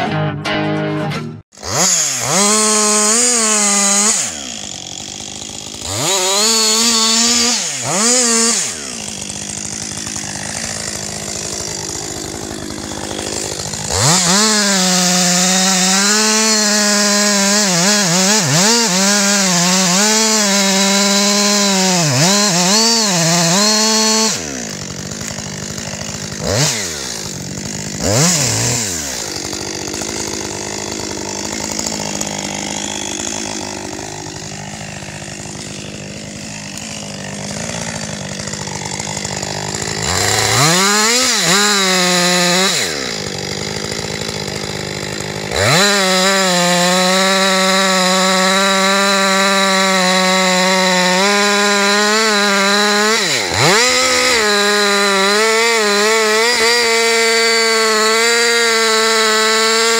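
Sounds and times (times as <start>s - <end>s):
chainsaw revving and cutting: 1.4s - 59.9s.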